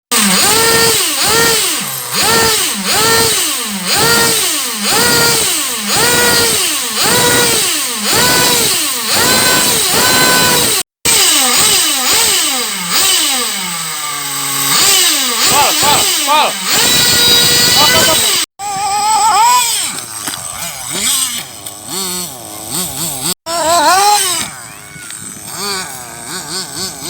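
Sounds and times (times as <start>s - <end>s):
toy car motor revving: 0.1s - 27.0s.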